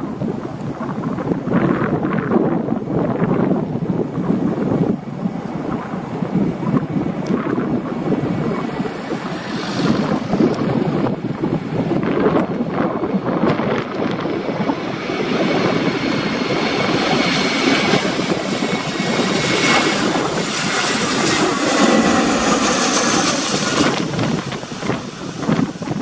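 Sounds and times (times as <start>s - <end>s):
jet engines rumbling and whining: 0.0s - 26.0s
wind buffeting microphone: 0.0s - 26.0s.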